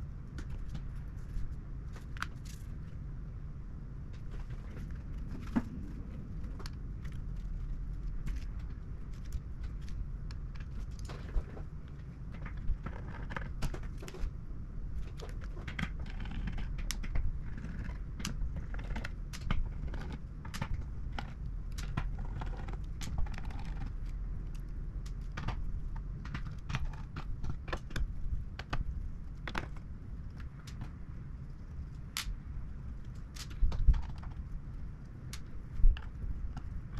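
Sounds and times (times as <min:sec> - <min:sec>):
low steady hum: 0:00.0 - 0:36.9
clicks and rattles of small parts: 0:00.3 - 0:03.0, 0:04.1 - 0:14.4, 0:15.0 - 0:32.4, 0:33.0 - 0:36.9.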